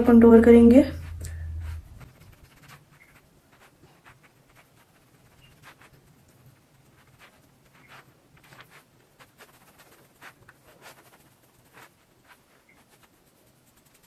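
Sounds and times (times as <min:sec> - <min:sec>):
makeup brush rubbing on skin: 0:00.0 - 0:14.0.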